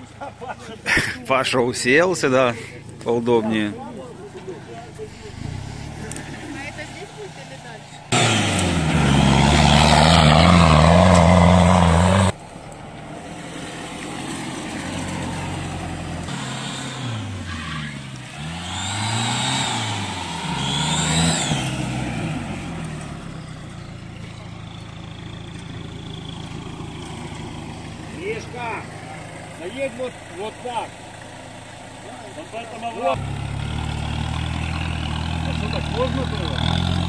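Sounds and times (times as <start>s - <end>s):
off-road truck engine revving: 0.0s - 37.0s.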